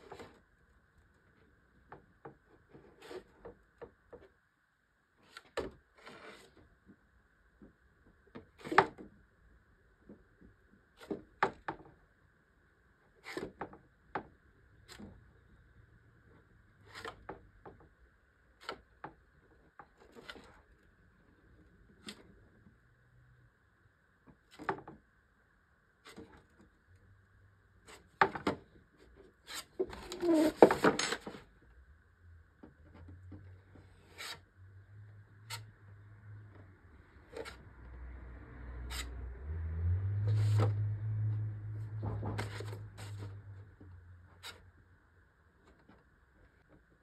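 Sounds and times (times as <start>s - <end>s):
faint steady hum: 0.0s - 39.4s.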